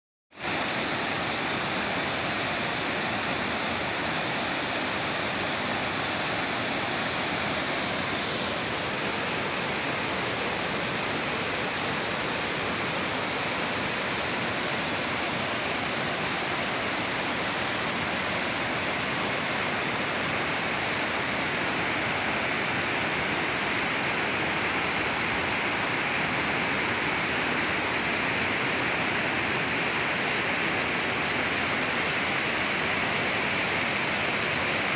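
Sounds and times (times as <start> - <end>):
water rushing over rocks: 0.4 - 34.9.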